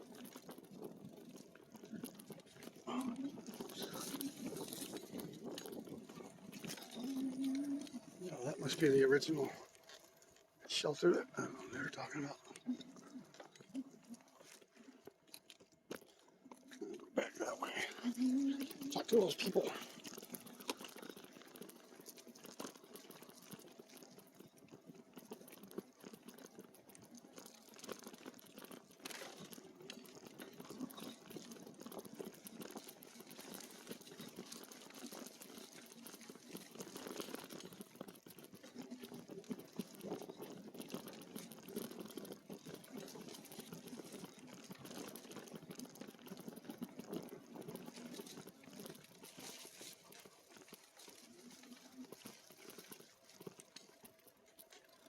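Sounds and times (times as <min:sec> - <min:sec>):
bike tyres rolling on dirt trail: 0:00.0 - 0:55.0.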